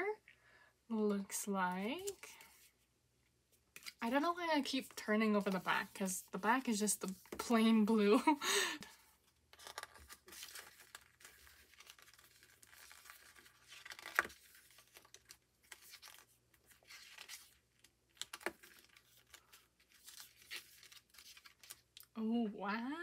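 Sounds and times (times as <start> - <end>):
paper and card rustling: 1.7 - 2.8, 3.7 - 22.0.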